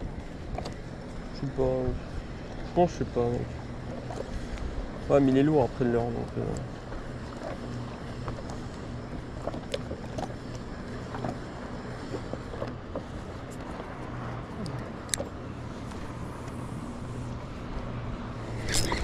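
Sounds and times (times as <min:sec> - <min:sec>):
steady low hum: 0:00.0 - 0:19.0
water lapping around a paddleboard: 0:00.0 - 0:19.0.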